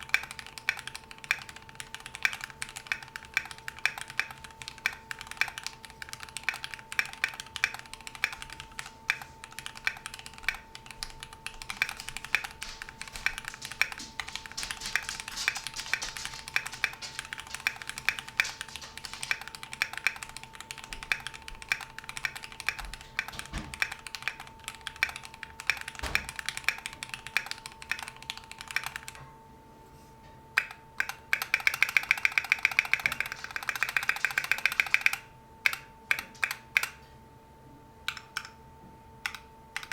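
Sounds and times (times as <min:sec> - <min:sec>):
mechanical keyboard typing: 0:00.0 - 0:29.2, 0:30.6 - 0:37.0, 0:38.1 - 0:38.6, 0:39.2 - 0:39.9
faint steady hum: 0:00.0 - 0:39.9.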